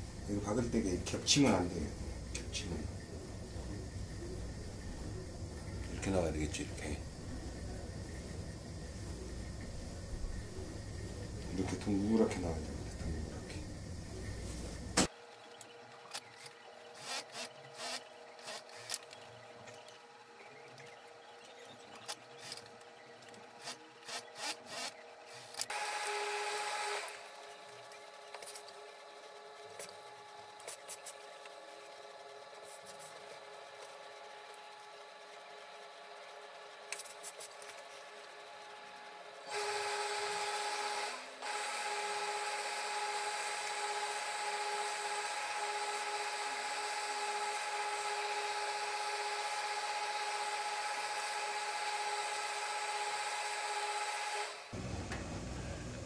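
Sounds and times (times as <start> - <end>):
machine humming and hissing: 0.0 - 56.0.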